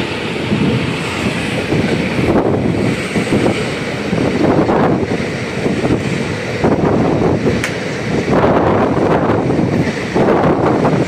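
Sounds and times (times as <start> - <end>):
train wheels rumbling on track: 0.0 - 11.0
wind buffeting microphone: 0.0 - 11.0.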